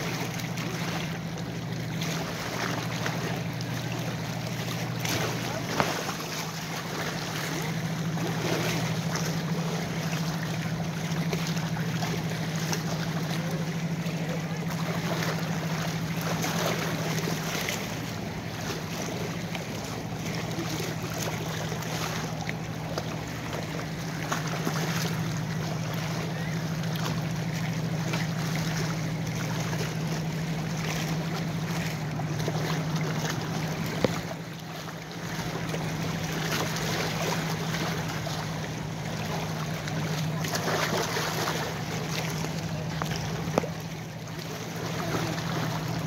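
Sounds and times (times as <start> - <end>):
steady low hum: 0.0 - 46.0
waves lapping against rocks: 0.0 - 46.0.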